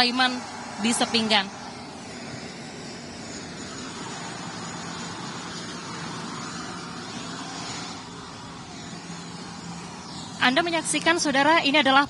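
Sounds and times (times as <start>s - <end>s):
jet engines with high whine: 0.0s - 12.0s.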